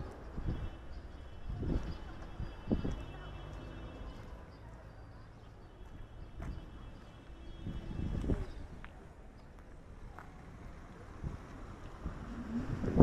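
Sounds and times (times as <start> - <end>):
street ambience: 0.0 - 13.0.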